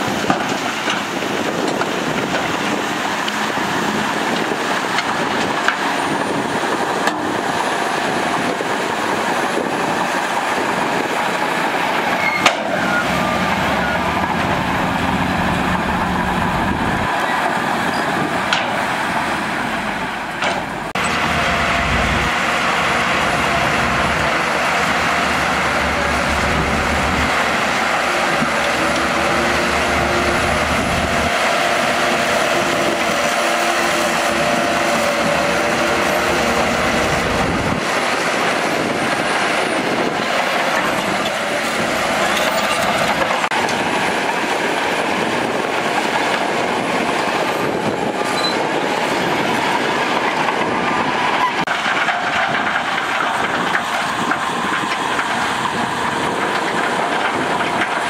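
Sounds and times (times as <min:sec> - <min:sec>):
diesel engine under load: 0:00.0 - 0:58.0
steel tracks moving: 0:00.0 - 0:58.0.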